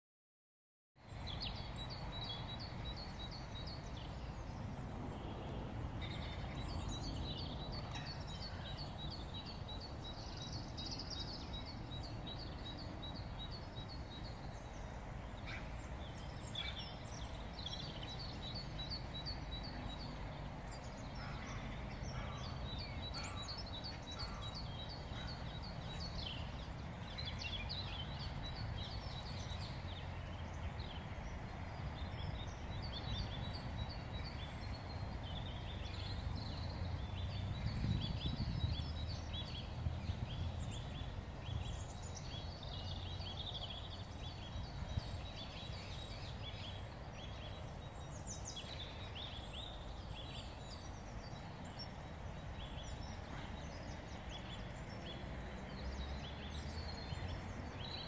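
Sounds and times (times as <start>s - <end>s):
small birds singing: 1.0s - 58.0s.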